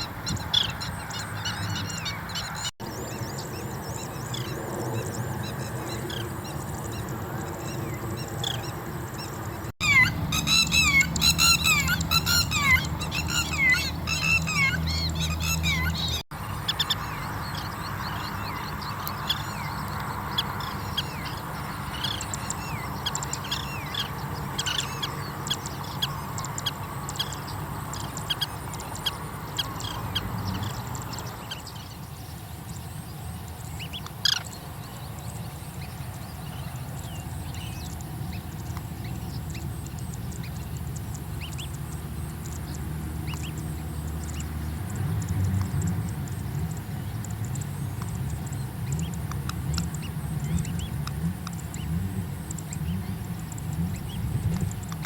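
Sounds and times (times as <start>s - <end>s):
birds calling sharply: 0.0s - 55.0s
outdoor background noise: 0.0s - 55.0s.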